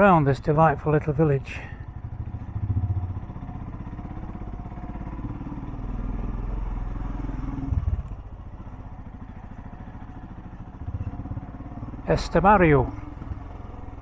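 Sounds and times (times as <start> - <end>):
motorcycle engine revving: 1.5 - 14.0.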